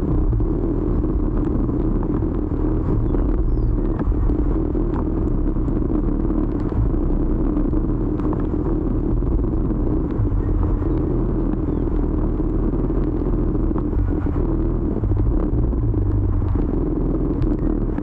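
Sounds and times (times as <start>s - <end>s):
motor scooter engine hum: 0.0s - 18.0s
road noise: 0.0s - 18.0s.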